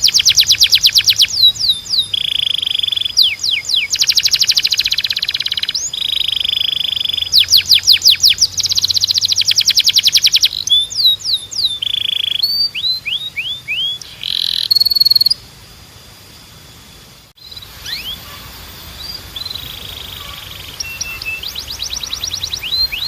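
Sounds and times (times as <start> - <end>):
canary singing: 0.0 - 15.5, 17.4 - 23.0.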